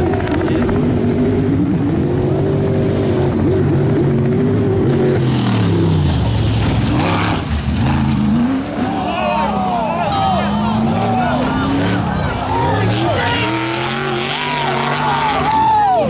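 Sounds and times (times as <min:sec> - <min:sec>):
race vehicle engines revving: 0:00.0 - 0:16.0.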